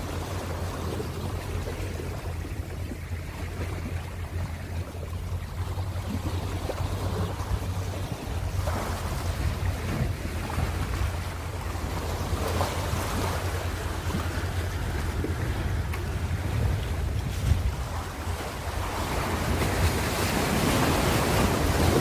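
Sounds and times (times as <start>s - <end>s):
low rumble: 0.0s - 22.0s
ocean waves washing on shore: 0.0s - 22.0s.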